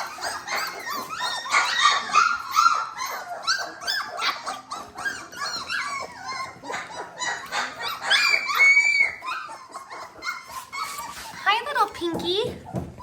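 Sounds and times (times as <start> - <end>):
puppies whining and yipping: 0.0 - 13.0.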